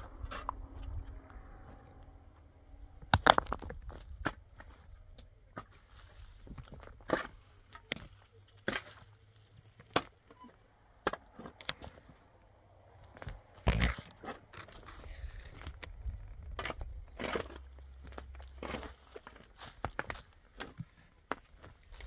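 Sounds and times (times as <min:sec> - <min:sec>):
crunches and scrapes: 0:03.0 - 0:12.3, 0:13.0 - 0:22.0.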